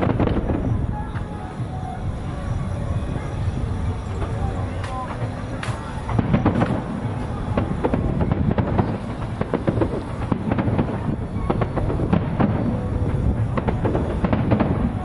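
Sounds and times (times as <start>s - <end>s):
firework shell bursts and crackling: 0.0s - 15.0s
steady low rumble: 0.0s - 15.0s.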